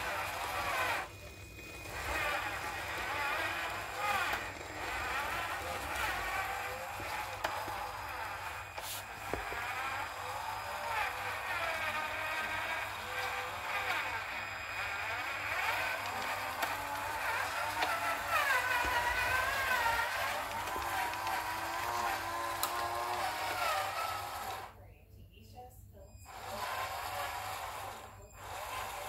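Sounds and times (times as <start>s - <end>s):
toy truck motor whining: 0.0s - 24.8s, 26.0s - 29.0s.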